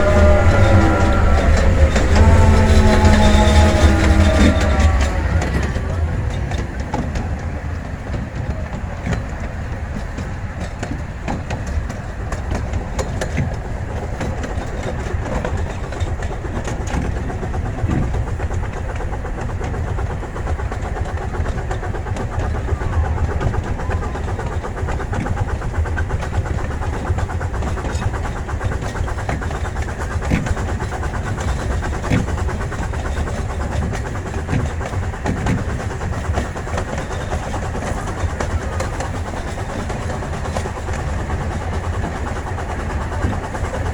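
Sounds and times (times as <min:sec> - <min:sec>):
train cars rumbling on track: 0:00.0 - 0:43.9
wheels clicking over rail joints: 0:00.0 - 0:43.9.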